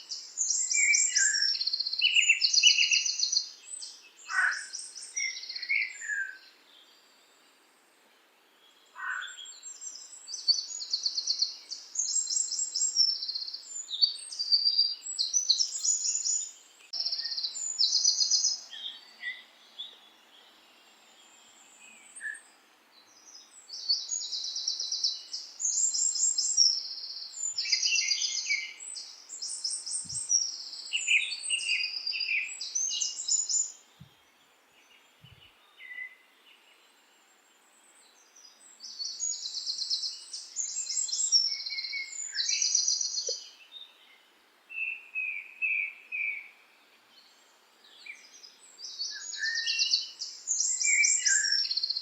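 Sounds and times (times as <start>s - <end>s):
songbirds chirping and singing: 0.0s - 52.0s.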